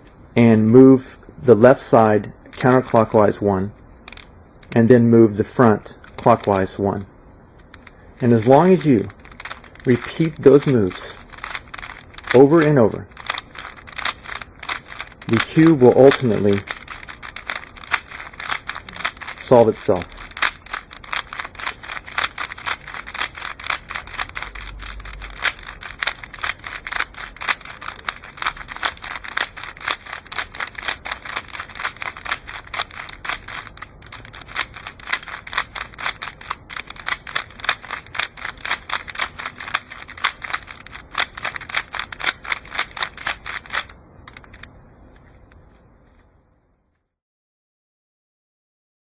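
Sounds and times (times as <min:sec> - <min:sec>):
puzzle cube twisting clicks: 0:01.6 - 0:45.6.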